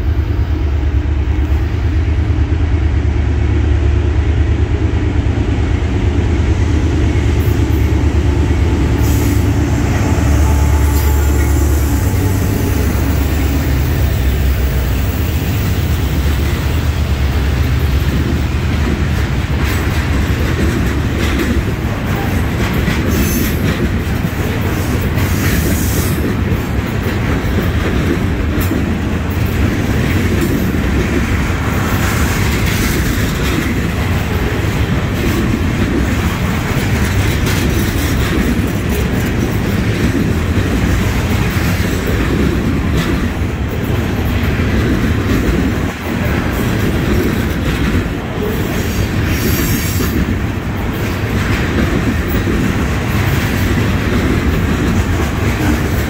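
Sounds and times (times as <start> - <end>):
diesel locomotive engines: 0.0 - 56.0
train wheels rumbling and clanking: 0.0 - 56.0.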